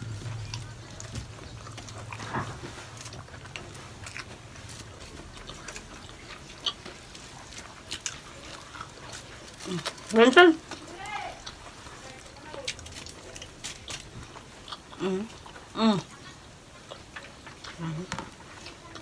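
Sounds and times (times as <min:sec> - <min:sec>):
people chewing food: 0:00.0 - 0:19.0.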